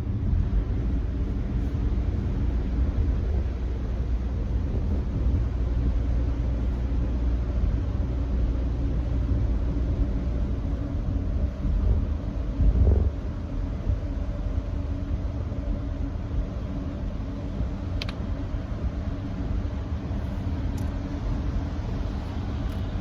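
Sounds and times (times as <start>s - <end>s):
car road noise rumble: 0.0s - 23.0s.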